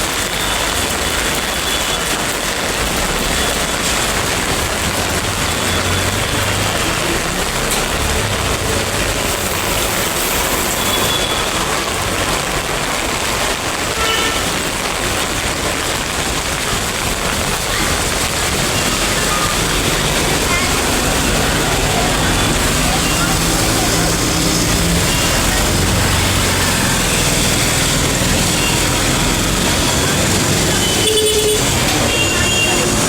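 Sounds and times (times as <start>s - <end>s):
traffic rushing in heavy rain: 0.0s - 33.0s.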